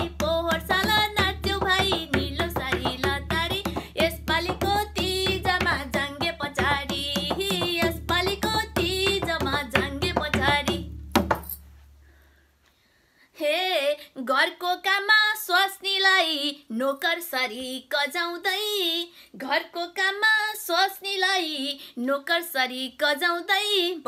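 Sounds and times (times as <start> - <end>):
woman singing folk song: 0.0 - 11.0, 13.3 - 24.0.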